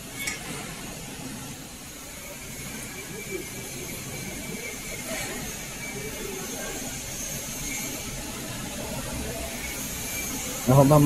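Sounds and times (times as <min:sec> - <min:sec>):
factory machinery hum and hiss: 0:00.0 - 0:11.0
faint indistinct voices: 0:00.0 - 0:11.0.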